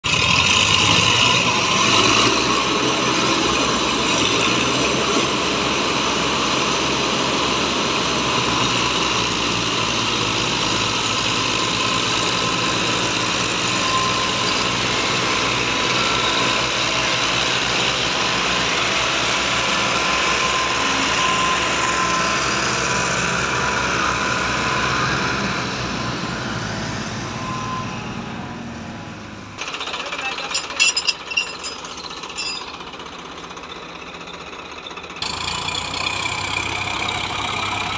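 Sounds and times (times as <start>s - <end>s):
diesel tractor engines running: 0.0s - 37.9s.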